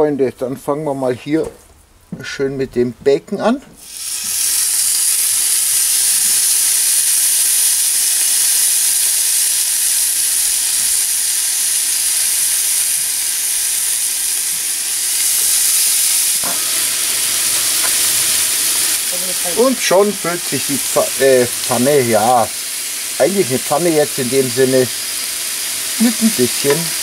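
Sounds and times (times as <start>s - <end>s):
bacon sizzling: 3.8s - 27.0s.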